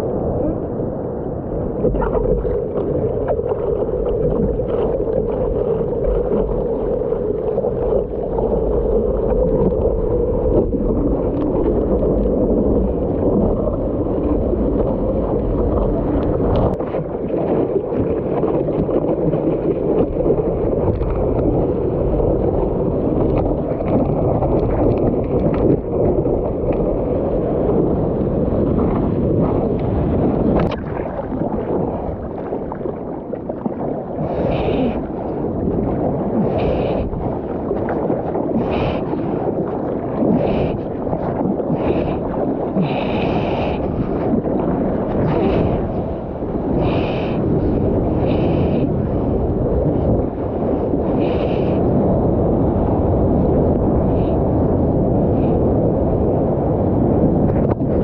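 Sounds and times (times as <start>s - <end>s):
seawater rushing and splashing: 0.0s - 58.0s.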